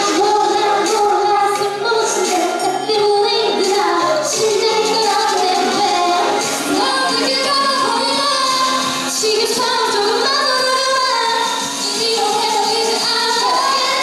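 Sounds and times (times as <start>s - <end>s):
backing track: 0.0s - 14.0s
women singing pop song: 0.0s - 14.0s.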